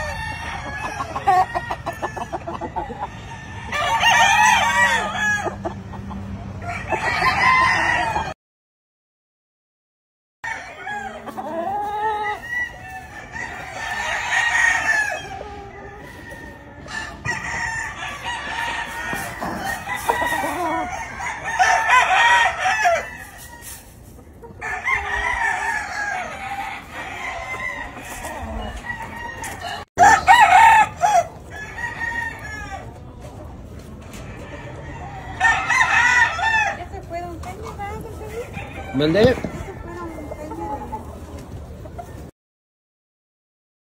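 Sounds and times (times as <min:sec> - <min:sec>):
chickens clucking: 0:00.0 - 0:08.4, 0:10.5 - 0:42.3
roosters crowing: 0:00.0 - 0:08.4, 0:10.4 - 0:41.2.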